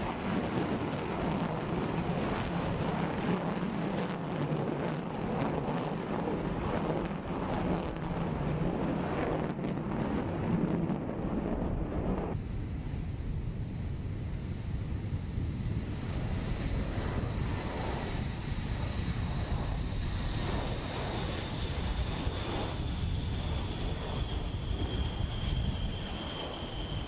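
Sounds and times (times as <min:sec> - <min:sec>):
high turbine whine: 0:00.0 - 0:27.0
jet engines heavy rumble: 0:00.0 - 0:27.0.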